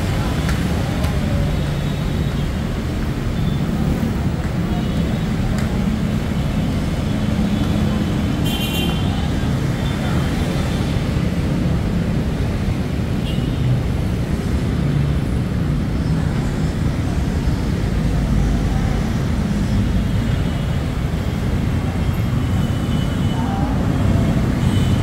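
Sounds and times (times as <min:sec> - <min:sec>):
city road traffic rumble: 0:00.0 - 0:25.0.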